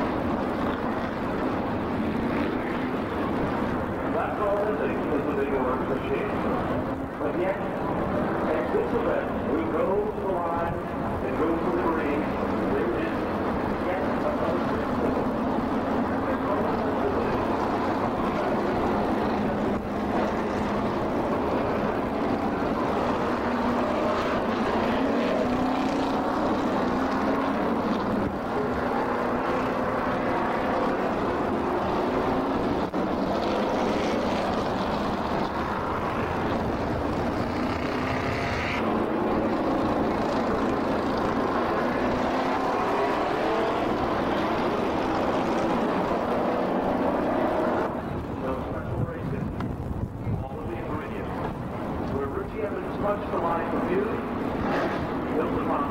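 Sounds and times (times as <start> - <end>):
race car engines passing: 0.0 - 55.9.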